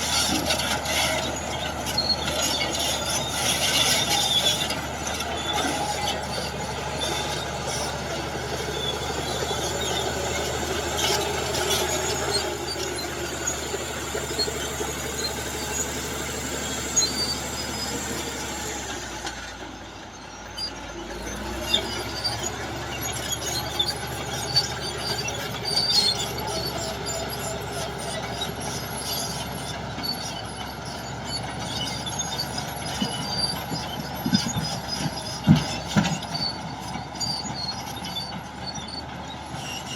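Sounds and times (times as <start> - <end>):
crawler tracks squealing and clanking: 0.0 - 39.9
diesel engine under load: 0.0 - 39.9.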